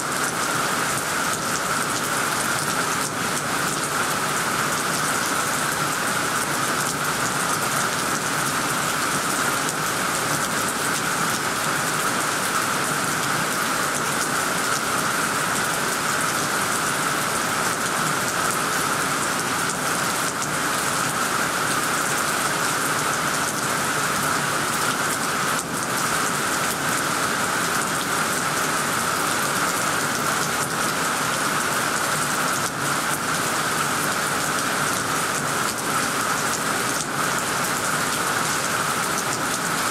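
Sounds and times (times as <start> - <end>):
heavy rain on leaves and roof: 0.0 - 39.9.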